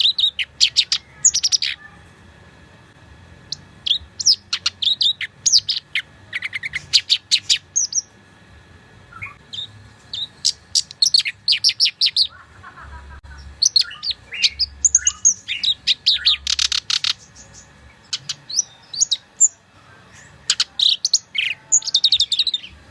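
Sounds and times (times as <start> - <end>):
warbler singing chirps and trills: 0.0 - 1.9, 3.4 - 8.2, 9.0 - 12.4, 13.2 - 22.9.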